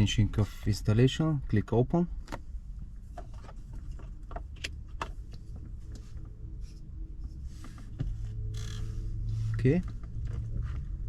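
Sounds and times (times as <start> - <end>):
low car cabin hum: 0.0 - 11.0.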